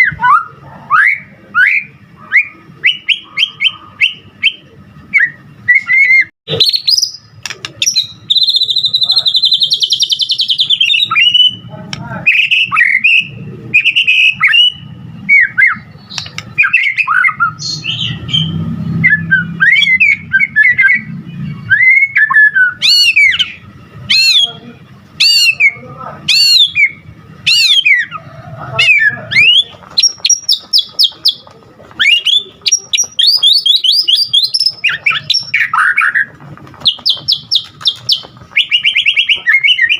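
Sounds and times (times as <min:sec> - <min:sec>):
songbird whistling and trilling: 0:00.0 - 0:11.6, 0:12.2 - 0:24.6, 0:25.2 - 0:28.2, 0:28.8 - 0:31.4, 0:32.0 - 0:39.9.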